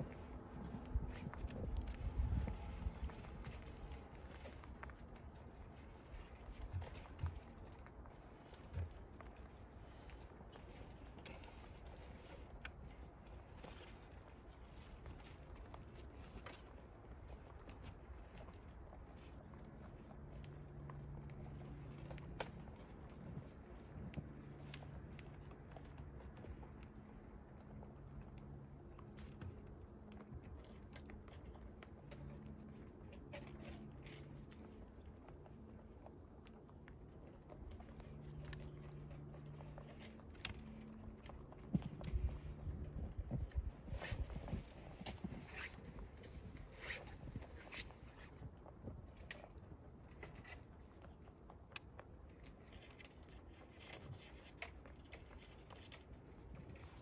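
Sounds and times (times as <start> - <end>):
low hum: 0.0 - 57.0
rabbits nibbling on wire mesh: 0.0 - 57.0.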